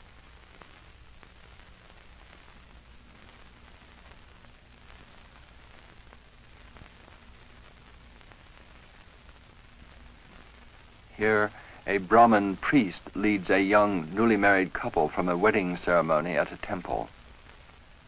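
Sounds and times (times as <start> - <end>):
film soundtrack hiss and hum: 0.0 - 18.0.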